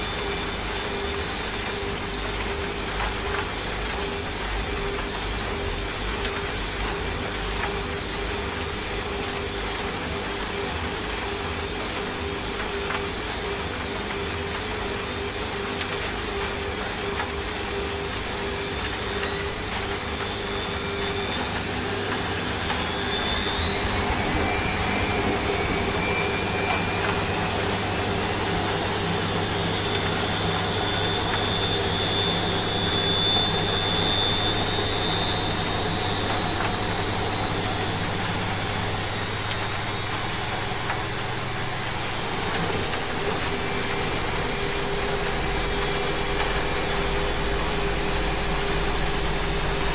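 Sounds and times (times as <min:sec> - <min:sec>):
rain hissing: 0:00.0 - 0:49.9
washing machine spinning: 0:00.0 - 0:49.9.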